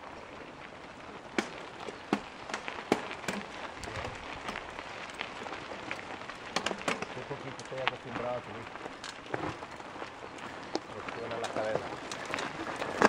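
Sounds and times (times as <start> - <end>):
bike tyres crunching on gravel: 0.0 - 13.0.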